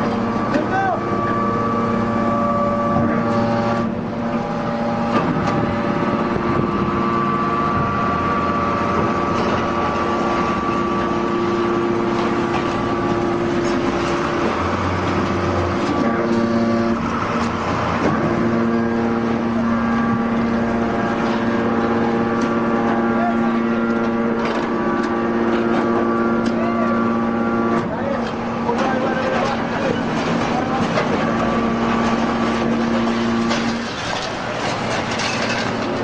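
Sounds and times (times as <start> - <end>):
hydraulic baler humming: 0.0 - 36.0.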